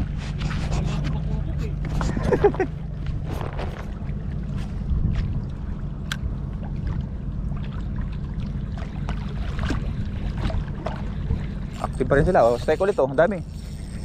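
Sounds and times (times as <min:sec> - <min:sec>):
sea lapping at rocks: 0:00.0 - 0:12.5
wind rumble on microphone: 0:00.0 - 0:14.0.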